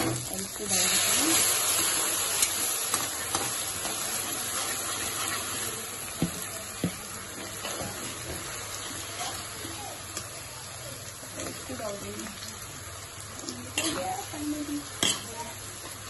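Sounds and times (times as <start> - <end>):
sauce sizzling and bubbling in wok: 0.0 - 16.0.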